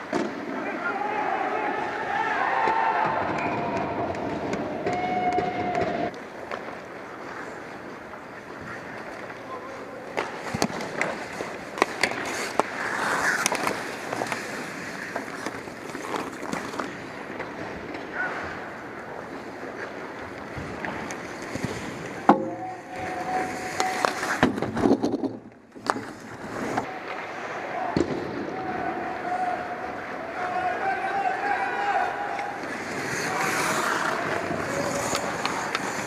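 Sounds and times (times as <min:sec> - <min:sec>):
hockey sticks and puck clacking: 0:01.8 - 0:36.0
skate blades scraping ice: 0:03.5 - 0:27.8, 0:29.9 - 0:36.0.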